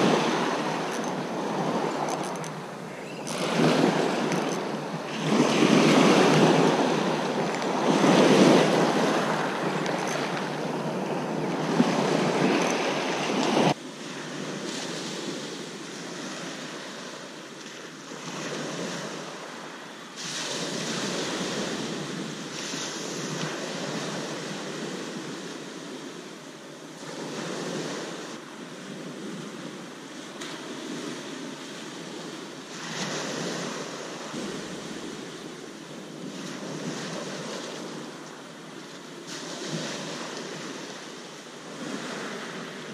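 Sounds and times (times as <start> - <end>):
waves washing on shingle beach: 0.0 - 42.9.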